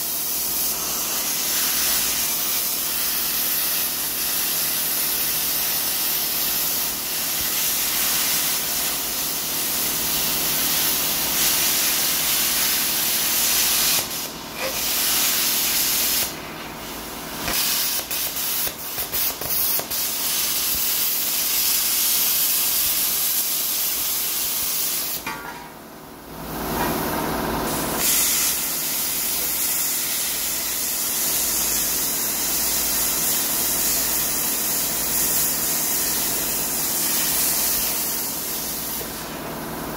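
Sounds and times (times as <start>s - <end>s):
plasma cutter hissing: 0.0s - 25.2s, 27.7s - 39.3s.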